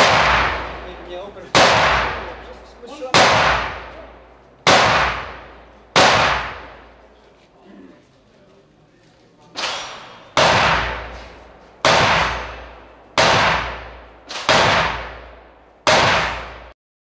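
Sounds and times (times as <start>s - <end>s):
echoing gunshots: 0.0s - 7.0s, 9.6s - 16.8s.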